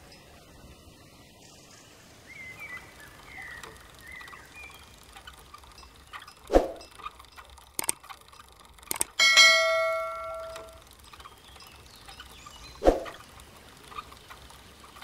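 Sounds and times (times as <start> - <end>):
birds chirping: 0.0 - 8.6, 9.2 - 15.0.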